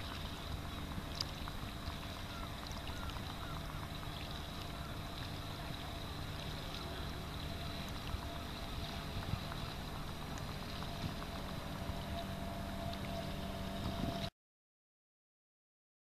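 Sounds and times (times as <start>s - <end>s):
small water splashes and drips: 0.0s - 14.3s
steady low rumble: 0.0s - 14.3s.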